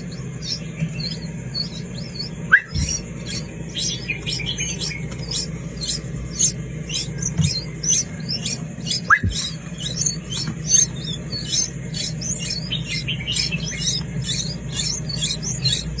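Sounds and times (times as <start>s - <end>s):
low hum: 0.0s - 16.0s
nestling birds chirping: 0.0s - 16.0s.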